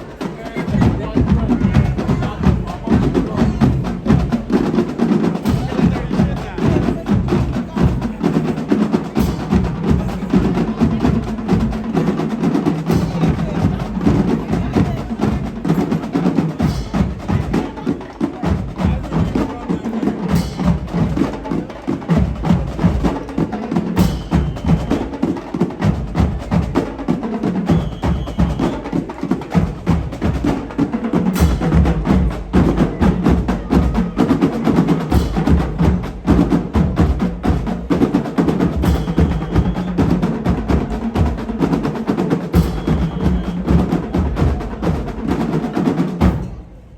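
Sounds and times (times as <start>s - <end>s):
fast drumming: 0.0s - 46.8s.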